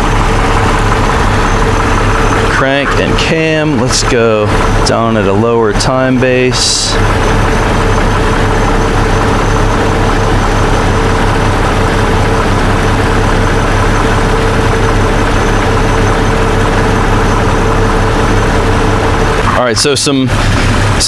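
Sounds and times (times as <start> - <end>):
car engine idling with misfire: 0.0 - 21.0.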